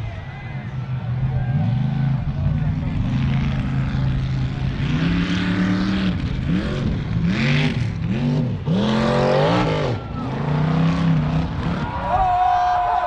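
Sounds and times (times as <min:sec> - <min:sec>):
truck engine revving: 0:00.6 - 0:12.4.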